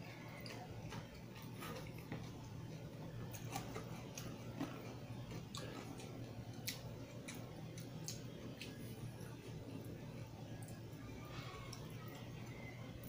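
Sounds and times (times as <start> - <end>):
low steady hum: 0.0 - 13.0
close chewing and mouth smacks: 0.1 - 13.0.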